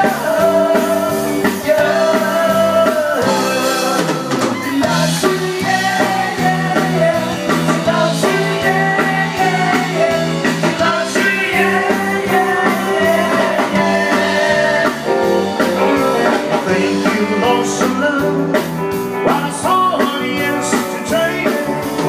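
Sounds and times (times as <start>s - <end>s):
man singing into a microphone: 0.0s - 15.2s, 15.8s - 22.0s
drum kit beat: 0.0s - 22.0s
guitar: 0.0s - 22.0s.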